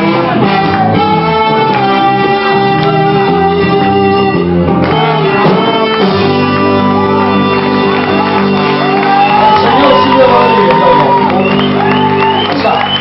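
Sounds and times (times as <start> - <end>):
live band playing amplified music: 0.0 - 13.0.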